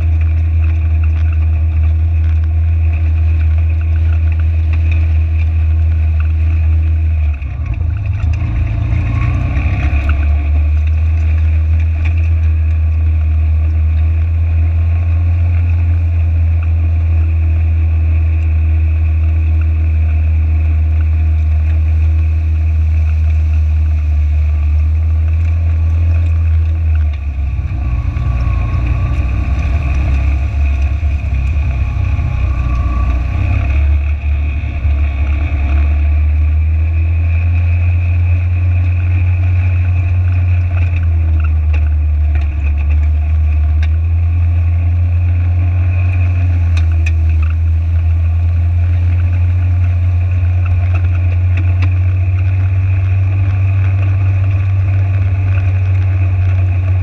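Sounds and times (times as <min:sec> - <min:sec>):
water rushing and splashing: 0:00.0 - 0:15.3, 0:18.9 - 0:57.0
utv engine running: 0:00.0 - 0:57.0.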